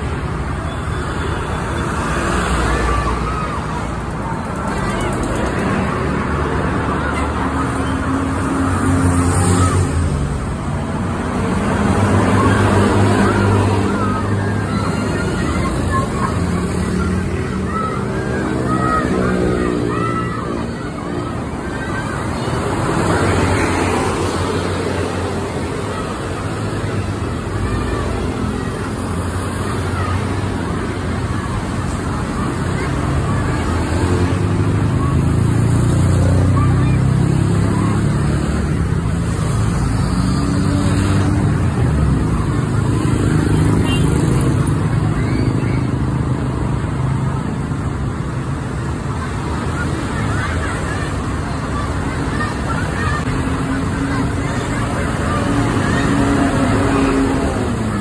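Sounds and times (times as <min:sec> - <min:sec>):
bus diesel engine: 0:00.0 - 0:58.0
road traffic hiss: 0:00.0 - 0:58.0.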